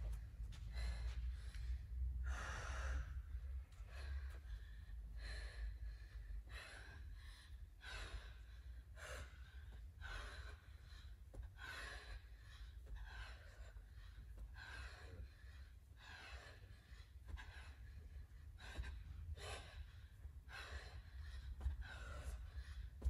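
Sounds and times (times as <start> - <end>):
woman breathing hard and gasping: 0.0 - 23.0.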